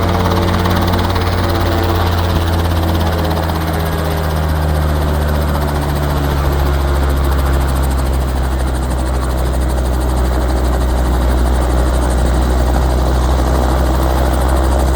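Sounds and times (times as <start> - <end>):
helicopter rotor and engine drone: 0.0 - 14.9.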